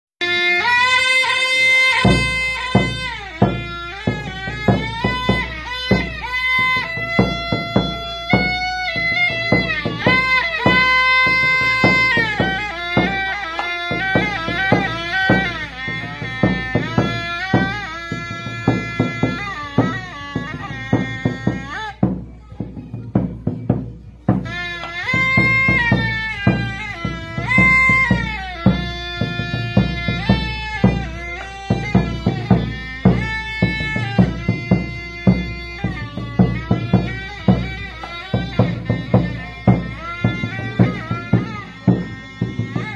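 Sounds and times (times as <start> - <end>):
large drum beats: 0.2 - 42.9
shrill pipe melody: 0.2 - 42.9.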